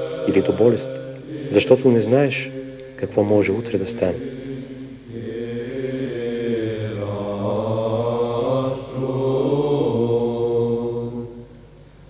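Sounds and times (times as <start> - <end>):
voices chanting long notes: 0.0 - 11.9.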